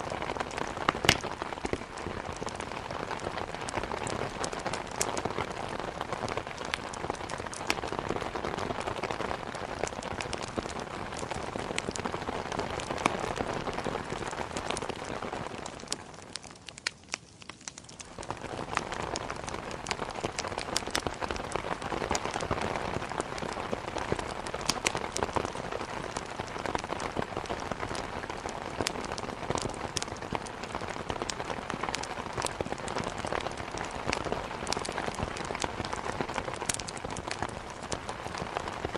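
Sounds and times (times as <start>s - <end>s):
heavy rain: 0.0s - 17.1s, 17.8s - 38.9s.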